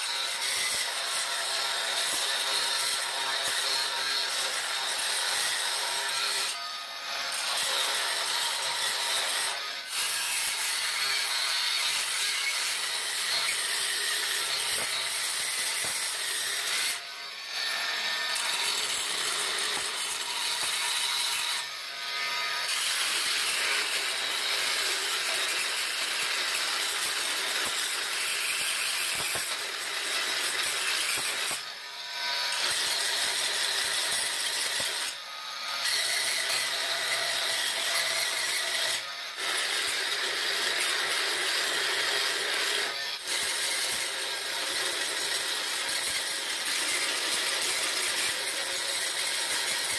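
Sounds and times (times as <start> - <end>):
multi-tool grinding grout: 0.0 - 49.9.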